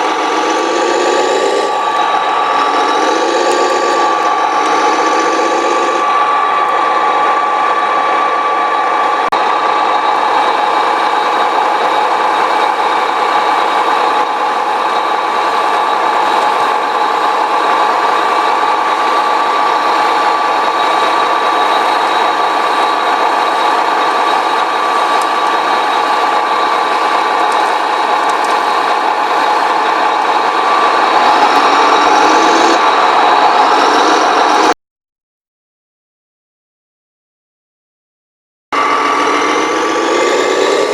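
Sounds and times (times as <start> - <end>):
model vehicle mechanical whine: 0.0 - 34.7, 38.8 - 40.9.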